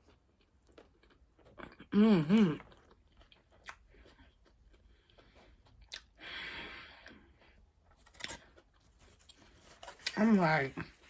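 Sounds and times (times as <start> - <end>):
person chewing food: 0.0 - 10.2.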